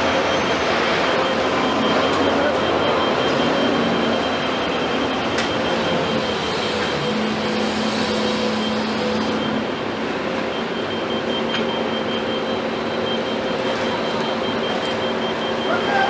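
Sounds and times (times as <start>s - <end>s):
excavator diesel engine running: 0.0s - 16.0s
held mechanical tone: 0.0s - 16.0s.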